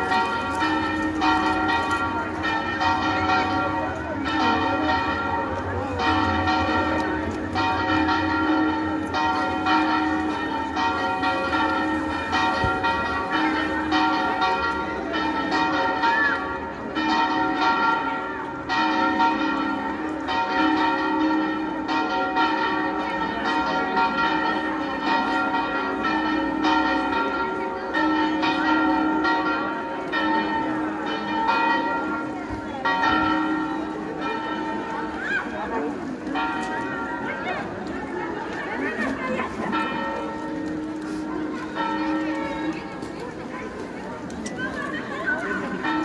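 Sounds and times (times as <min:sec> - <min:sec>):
bells ringing: 0:00.0 - 0:46.0.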